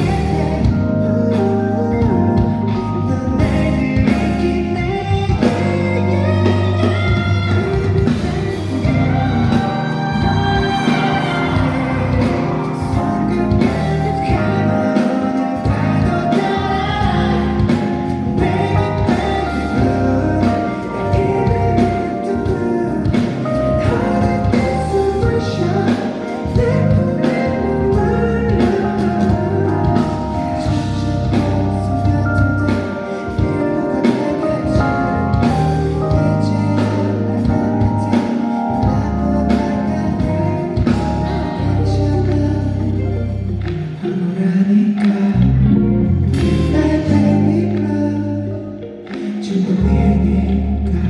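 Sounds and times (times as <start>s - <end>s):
man singing pop song with band: 0.0s - 51.0s.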